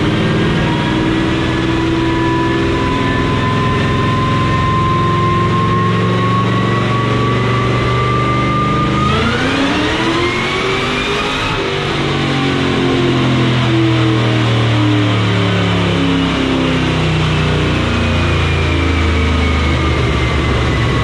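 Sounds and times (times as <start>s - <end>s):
engine supercharger whine: 0.0s - 21.0s.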